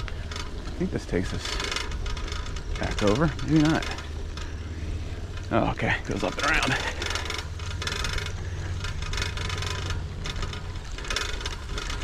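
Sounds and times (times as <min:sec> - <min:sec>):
bicycle clicking and rattling: 0:00.0 - 0:12.0
steady low rumble: 0:00.0 - 0:12.0.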